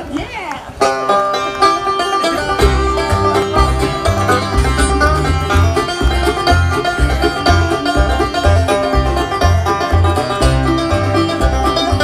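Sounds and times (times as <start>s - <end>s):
banjo picking: 0.7s - 12.0s
bass notes: 0.7s - 12.0s
guitar: 0.7s - 12.0s.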